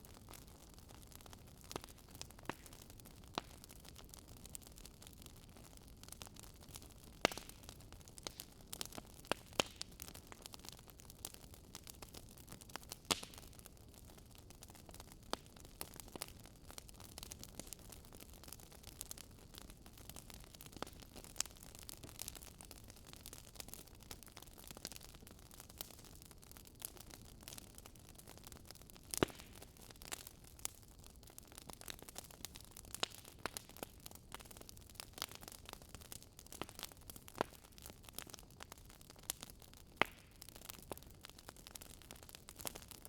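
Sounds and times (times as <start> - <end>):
fire crackling in a fireplace: 0.0 - 43.0.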